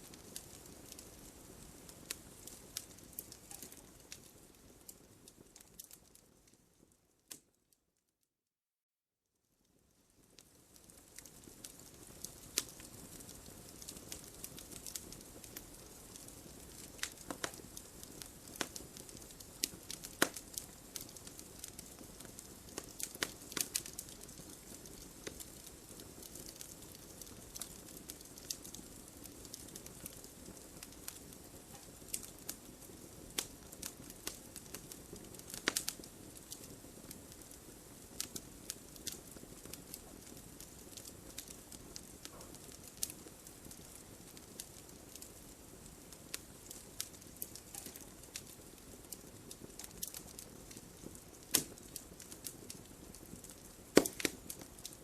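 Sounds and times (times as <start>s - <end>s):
wood fire crackling: 0.0s - 7.7s, 9.6s - 55.0s.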